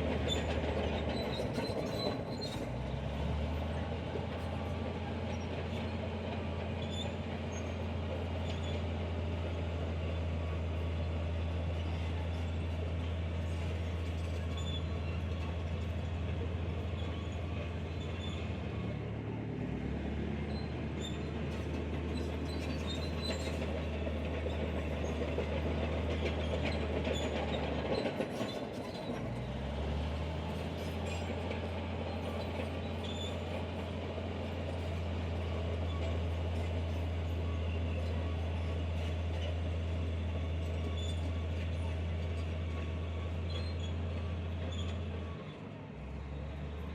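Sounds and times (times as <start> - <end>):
bulldozer diesel engine drone: 0.0 - 46.9
metal tracks clinking and squeaking: 0.1 - 2.8, 4.4 - 19.2, 20.4 - 46.9.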